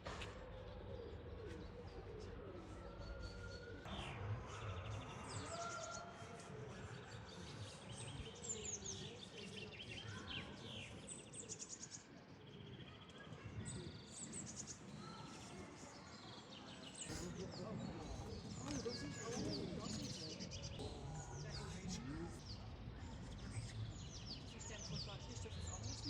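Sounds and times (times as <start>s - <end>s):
outdoor background noise: 0.0s - 26.0s
small birds chirping: 0.2s - 26.0s.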